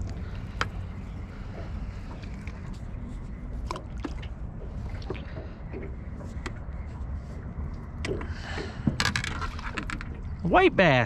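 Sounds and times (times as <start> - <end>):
water lapping: 0.0 - 11.0
wind: 0.0 - 11.0.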